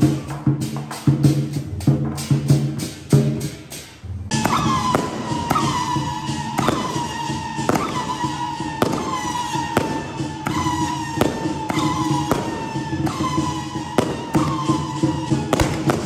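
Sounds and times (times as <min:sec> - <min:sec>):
percussion din: 0:00.0 - 0:16.0.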